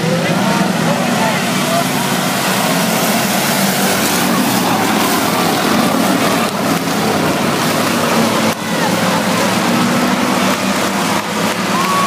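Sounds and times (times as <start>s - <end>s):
stock car engines racing: 0.0s - 12.0s.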